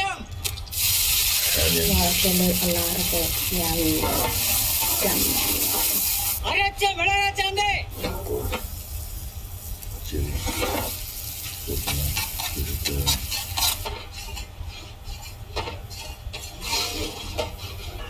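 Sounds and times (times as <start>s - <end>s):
onions sizzling in oil: 0.6s - 6.6s, 7.9s - 18.0s
spatula scraping a pan: 1.0s - 6.6s, 7.9s - 18.0s.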